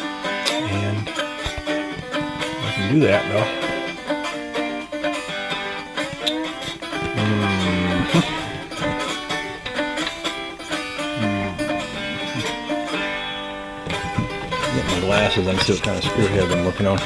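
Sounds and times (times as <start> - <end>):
banjo and guitar bluegrass music: 0.0 - 17.0.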